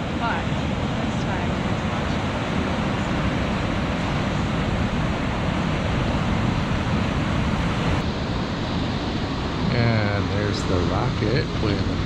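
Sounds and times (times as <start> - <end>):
ocean surf breaking: 0.0 - 12.0
wind noise on microphone: 0.0 - 12.0.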